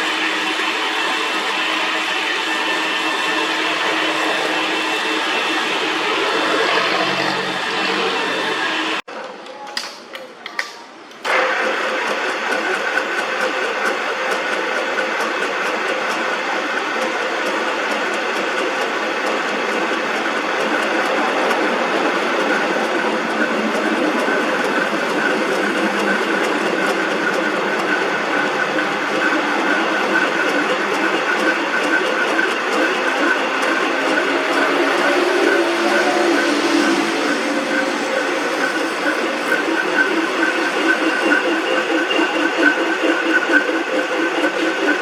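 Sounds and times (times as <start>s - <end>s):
metalworking machine running: 0.0s - 9.0s, 11.2s - 45.0s.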